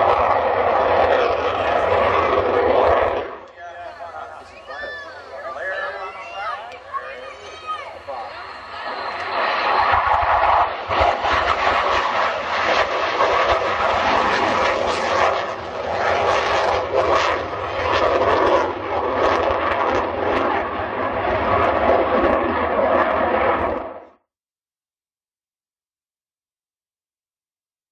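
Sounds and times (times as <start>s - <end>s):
jet passing overhead: 0.0s - 24.2s.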